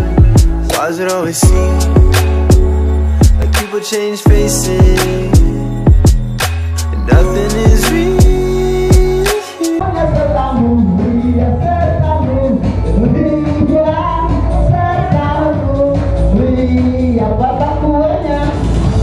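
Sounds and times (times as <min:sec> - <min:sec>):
backing music: 0:00.0 - 0:19.0
person singing: 0:00.0 - 0:19.0.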